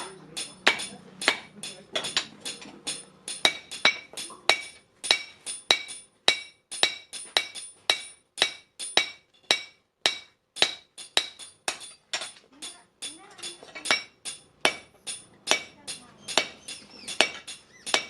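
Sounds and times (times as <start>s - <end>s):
hammer striking steel on anvil: 0.0s - 18.0s.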